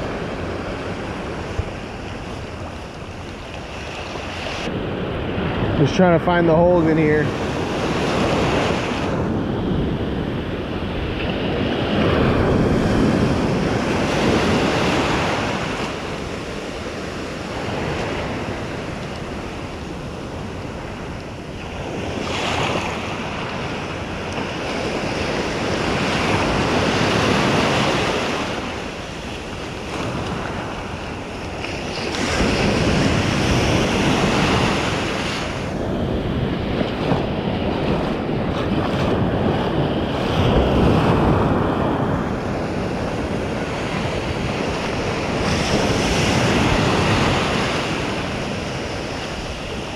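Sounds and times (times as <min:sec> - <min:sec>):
ocean surf breaking: 0:00.0 - 0:49.9
wind buffeting microphone: 0:00.0 - 0:49.9.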